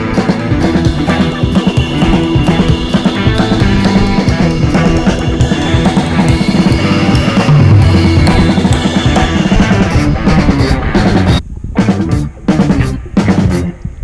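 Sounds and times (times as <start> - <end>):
rock music: 0.0 - 13.8.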